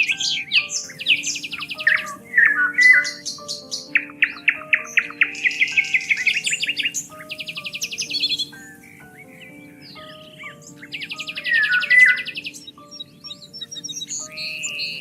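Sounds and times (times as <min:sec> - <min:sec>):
songbirds trilling and chirping: 0:00.0 - 0:15.0.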